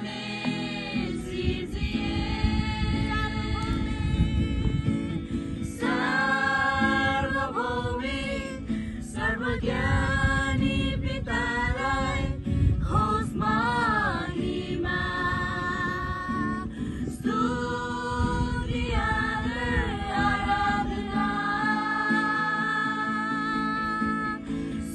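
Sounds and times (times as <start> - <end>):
acoustic guitar: 0.0 - 24.9
group singing together: 0.0 - 24.9.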